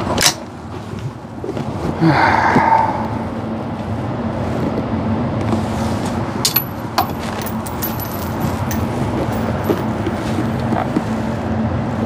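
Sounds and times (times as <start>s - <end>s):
ventilation rumble: 0.0s - 12.0s.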